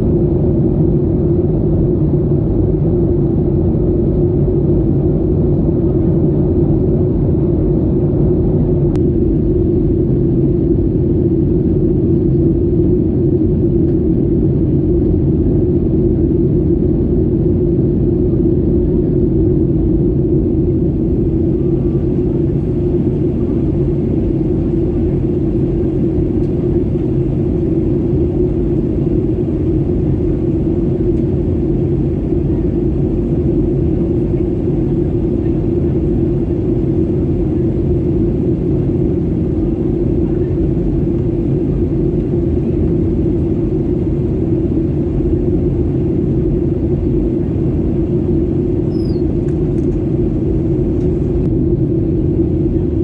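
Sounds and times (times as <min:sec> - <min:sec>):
airliner cabin drone: 0:00.0 - 0:53.0.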